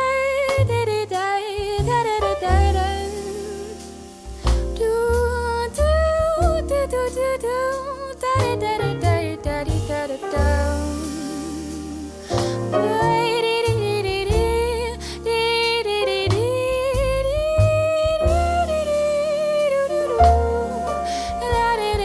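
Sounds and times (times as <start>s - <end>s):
drums with cymbal hits: 0.0s - 22.0s
piano chords: 0.0s - 22.0s
walking bass notes: 0.0s - 22.0s
wordless female vocal melody: 0.0s - 22.0s.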